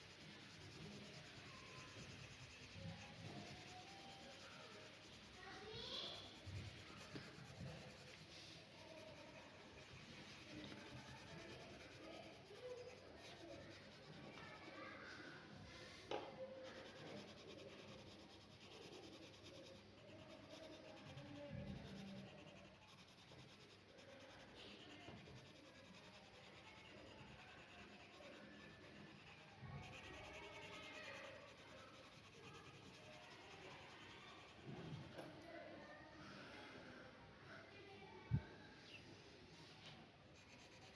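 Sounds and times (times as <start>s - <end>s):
pencil scratching on paper: 0.0s - 35.2s, 40.3s - 40.9s.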